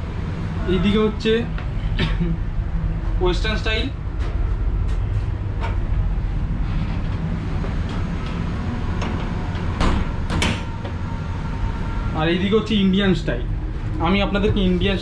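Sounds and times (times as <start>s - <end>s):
train coach rumbling on track: 0.0s - 15.0s.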